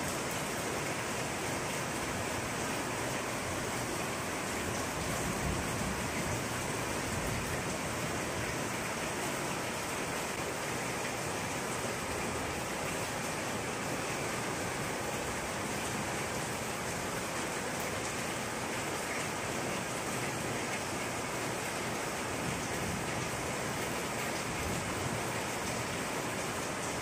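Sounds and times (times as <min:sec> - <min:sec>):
heavy rain on tiles and leaves: 0:00.0 - 0:27.0.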